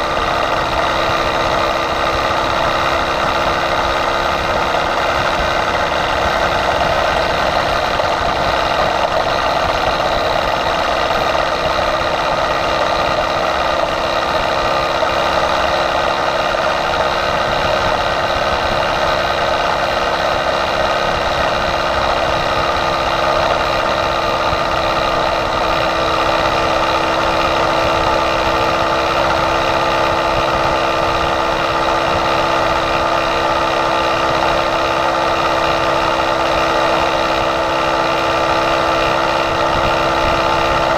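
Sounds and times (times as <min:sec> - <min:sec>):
small bicycle engine running: 0:00.0 - 0:40.9.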